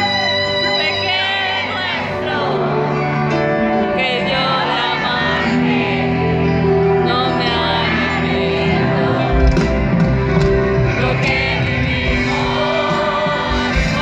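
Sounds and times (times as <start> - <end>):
live pop band playing a ballad: 0.0 - 14.0
person singing: 0.0 - 14.0.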